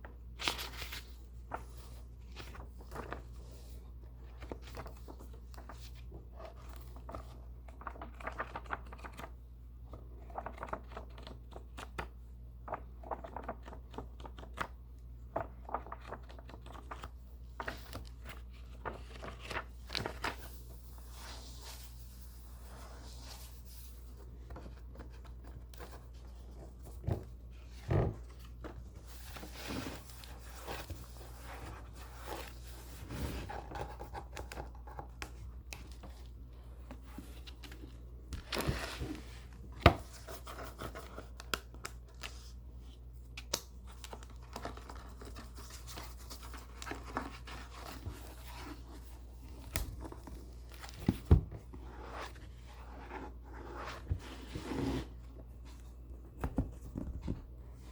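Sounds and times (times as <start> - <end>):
book pages rustling: 0.0 - 57.9.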